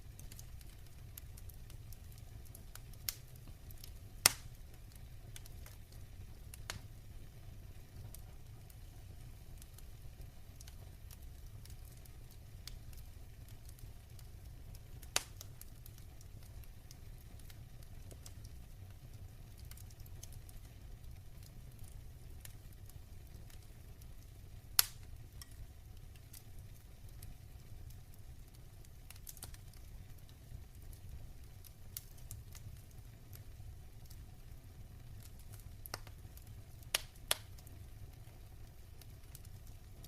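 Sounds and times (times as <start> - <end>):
fire crackling: 0.0 - 40.0
low rumble of fire: 0.0 - 40.0.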